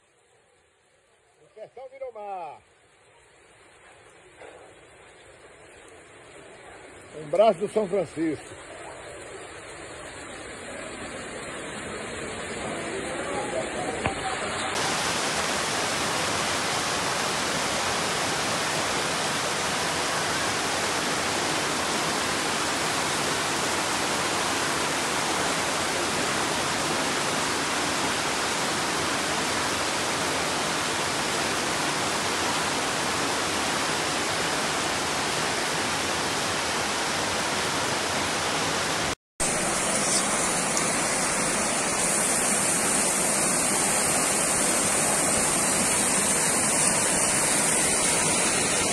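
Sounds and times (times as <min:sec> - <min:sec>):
floodwater rushing: 0:00.0 - 0:48.9
heavy rain pouring: 0:02.2 - 0:48.9.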